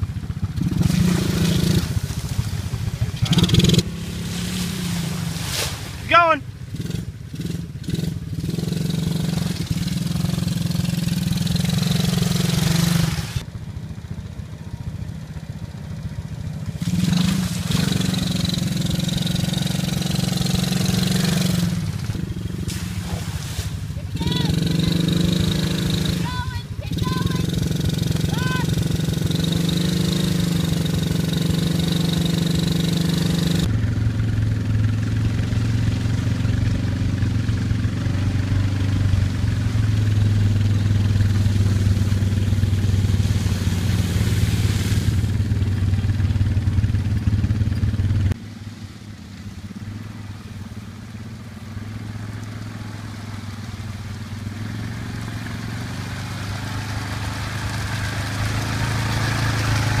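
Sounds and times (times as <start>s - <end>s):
four-wheeler engine: 0.0s - 60.0s
quad engine chugging through mud: 0.0s - 60.0s.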